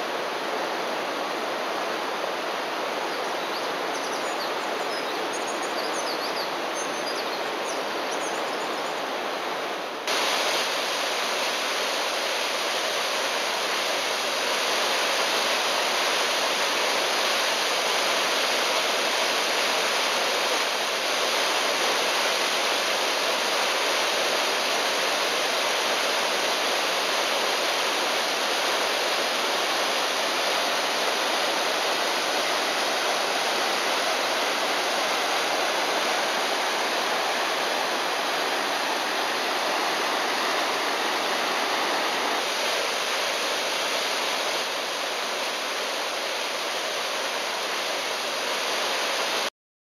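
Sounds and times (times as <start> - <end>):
waterfall rushing: 0.0 - 49.5.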